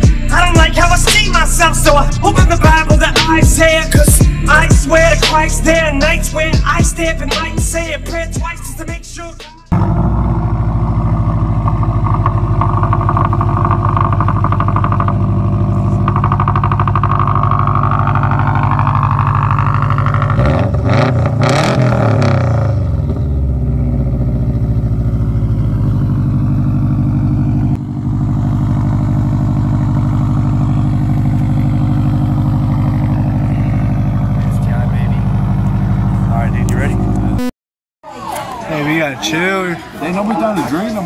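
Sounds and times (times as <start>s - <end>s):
car engine idling: 0.0s - 37.5s
engine revving: 0.0s - 37.5s.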